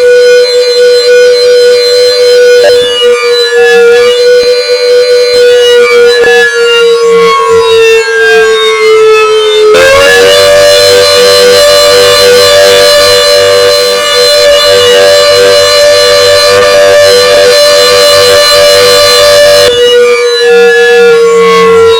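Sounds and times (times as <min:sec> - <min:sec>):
loud siren wailing: 0:00.0 - 0:21.9.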